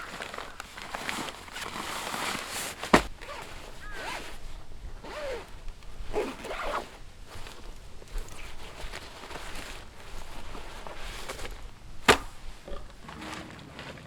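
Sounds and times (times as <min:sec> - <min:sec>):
zipper being pulled: 0:00.0 - 0:13.5.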